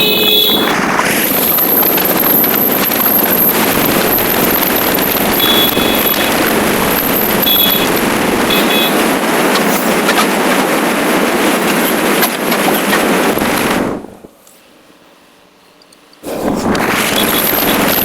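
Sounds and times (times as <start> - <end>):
wind and road noise rushing: 0.0 - 14.4, 16.2 - 18.0.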